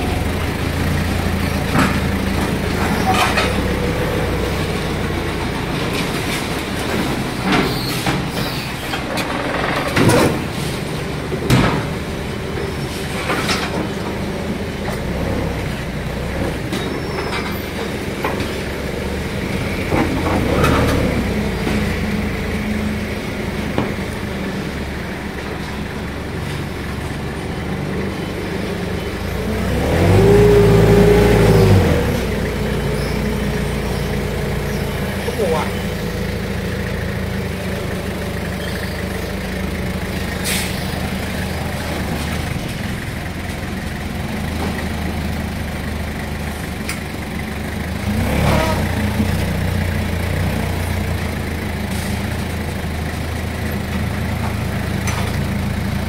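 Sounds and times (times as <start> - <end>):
forklift engine running: 0.0 - 56.0.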